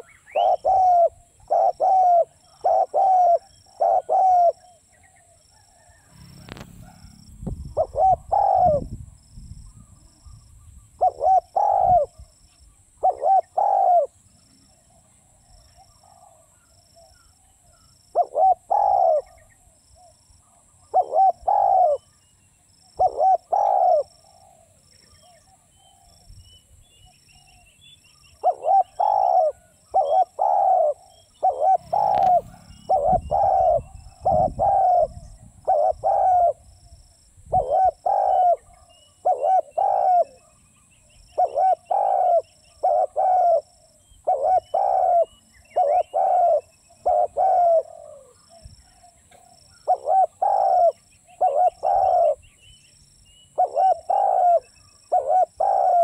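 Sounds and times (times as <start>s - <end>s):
dove cooing: 0.0s - 9.0s, 11.0s - 12.3s, 13.0s - 22.1s, 23.0s - 24.8s, 28.4s - 36.8s, 37.5s - 40.6s, 41.3s - 52.5s, 53.6s - 56.0s.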